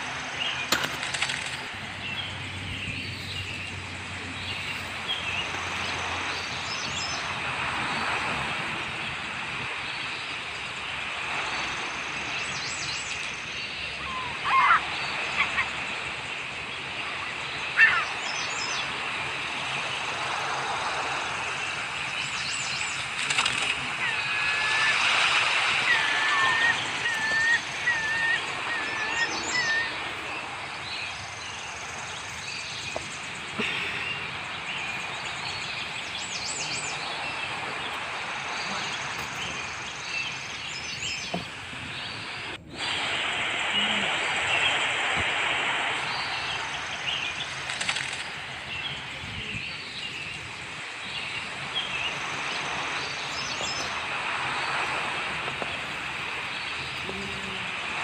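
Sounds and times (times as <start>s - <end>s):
outdoor background hiss: 0.0s - 58.0s
small birds chirping: 0.0s - 58.0s.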